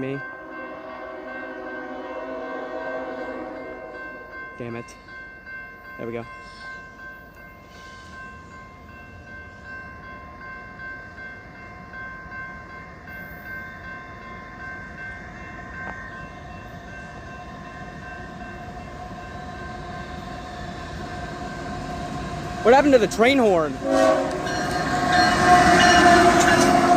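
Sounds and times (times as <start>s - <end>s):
high-pitched ringing tones: 0.0s - 22.5s
freight train rumble: 0.0s - 26.9s.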